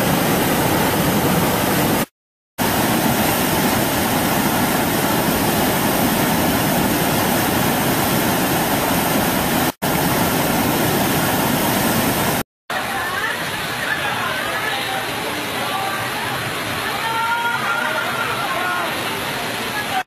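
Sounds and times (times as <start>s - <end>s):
rushing flood torrent: 0.0s - 20.0s.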